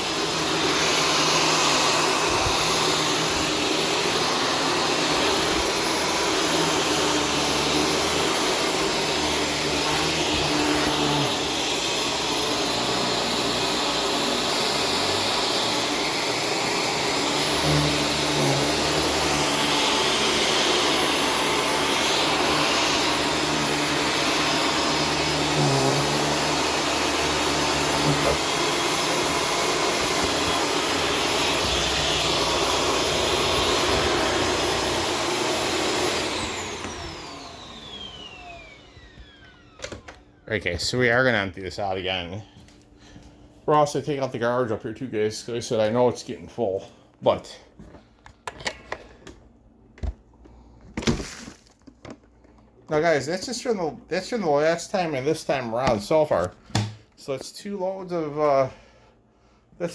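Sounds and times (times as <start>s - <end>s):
vacuum cleaner running: 0.0s - 44.4s, 50.0s - 59.9s.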